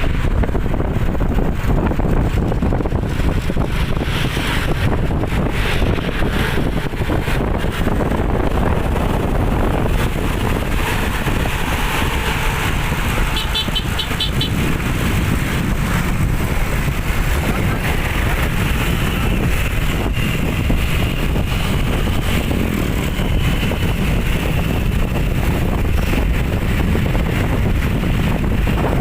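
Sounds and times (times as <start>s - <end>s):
road traffic rumble: 0.0s - 29.0s
wind buffeting microphone: 0.0s - 29.0s.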